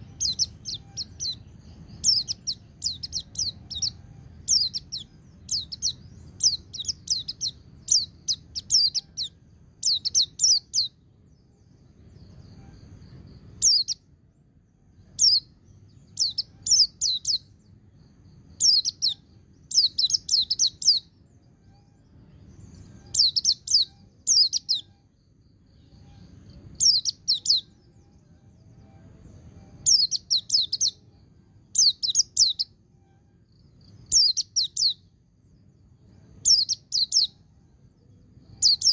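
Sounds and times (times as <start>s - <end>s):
small bird chirping song: 0.0s - 38.9s.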